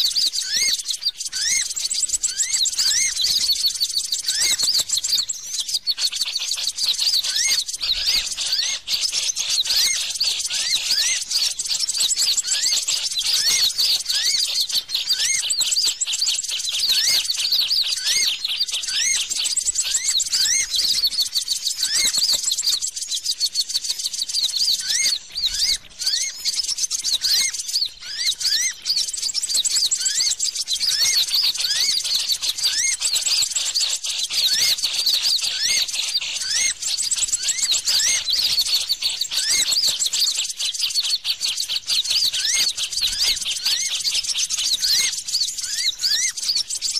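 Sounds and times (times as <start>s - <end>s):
bird chirping and twittering: 0.0s - 46.9s.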